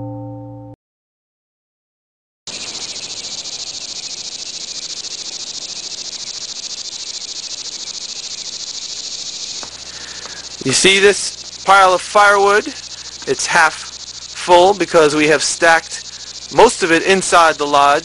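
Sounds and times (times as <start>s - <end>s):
crickets chirping: 2.5s - 18.0s.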